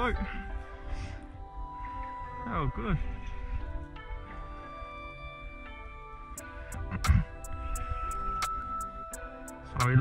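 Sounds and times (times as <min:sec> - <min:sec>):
background music with ticking beat: 0:00.0 - 0:10.0.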